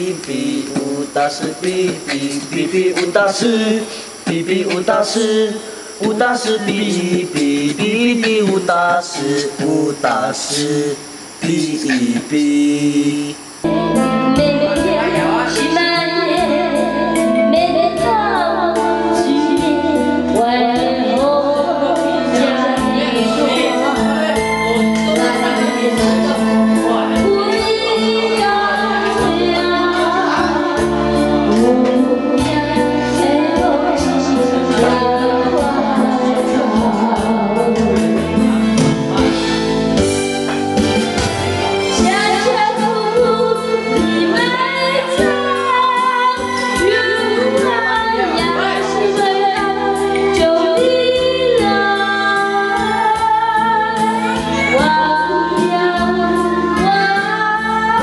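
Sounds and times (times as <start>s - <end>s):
person singing into a microphone: 0.0s - 40.1s, 41.7s - 58.0s
recorded backing track: 0.0s - 58.0s.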